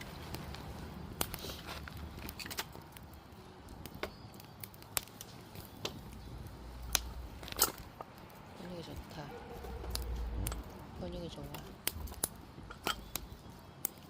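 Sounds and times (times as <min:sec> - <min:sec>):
firewood crackling and popping: 0:00.0 - 0:14.0.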